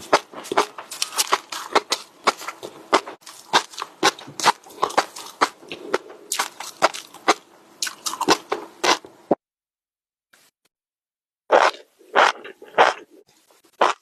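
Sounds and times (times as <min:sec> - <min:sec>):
crunchy chewing and biting: 0:00.0 - 0:09.1, 0:11.5 - 0:14.0.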